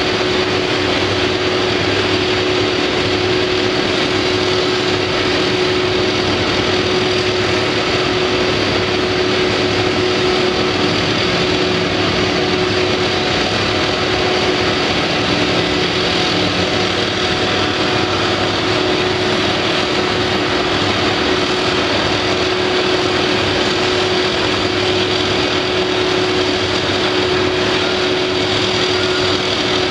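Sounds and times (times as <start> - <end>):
heavy machinery droning: 0.0 - 29.9.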